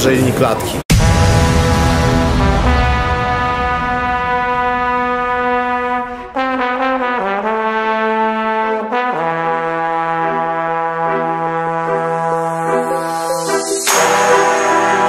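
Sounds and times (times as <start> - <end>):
brass-like background music: 0.9 - 15.0.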